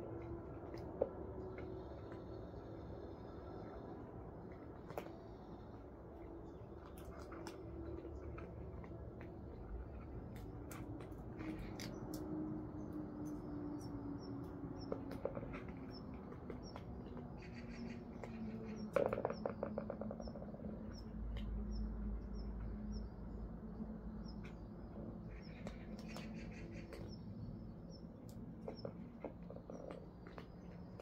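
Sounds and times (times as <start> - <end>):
cats eating from a bowl: 0.0 - 31.0.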